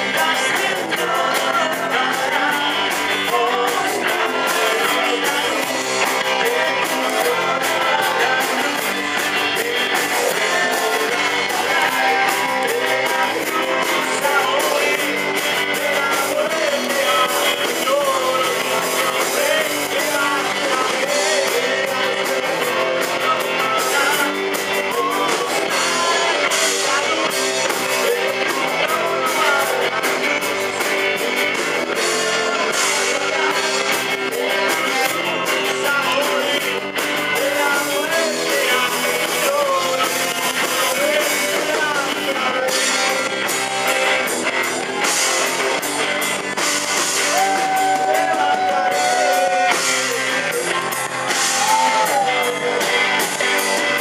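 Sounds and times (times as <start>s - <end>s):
drum kit with cymbals: 0.0s - 54.0s
electric guitars: 0.0s - 54.0s
man singing: 0.0s - 54.0s.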